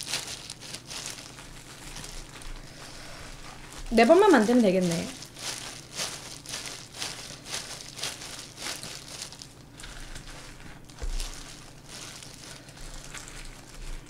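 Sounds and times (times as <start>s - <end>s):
plastic gloves crinkling: 0.0s - 14.0s.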